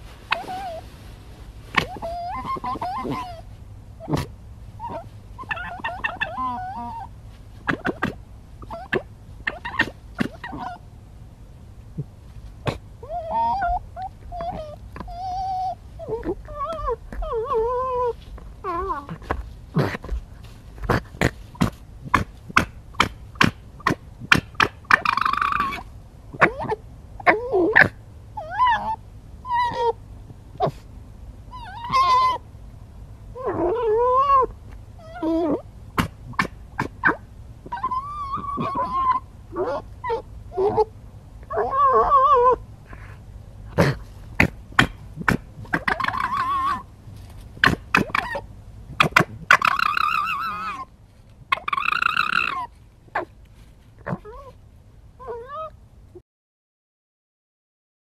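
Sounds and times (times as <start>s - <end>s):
fox wavering cries: 0.3s - 0.8s, 1.7s - 10.8s, 12.6s - 20.1s, 20.9s - 30.0s, 31.5s - 32.4s, 33.3s - 43.1s, 43.7s - 46.9s, 47.6s - 50.9s, 51.5s - 53.3s, 54.0s - 54.6s, 55.2s - 55.8s.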